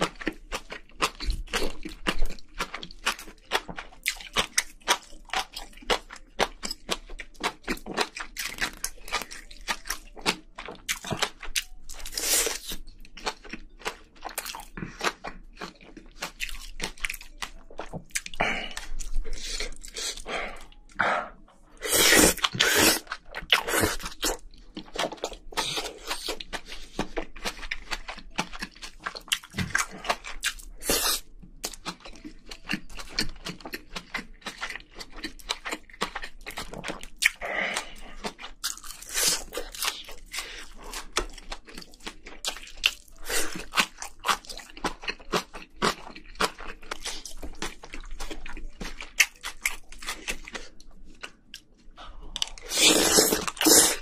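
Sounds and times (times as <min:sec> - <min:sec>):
wet chewing with crunches: 0:00.0 - 0:54.0.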